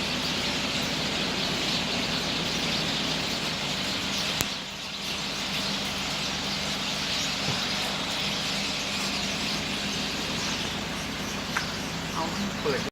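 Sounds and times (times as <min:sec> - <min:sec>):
flock of small birds chattering: 0:00.0 - 0:12.9
steady low hum: 0:00.0 - 0:12.9.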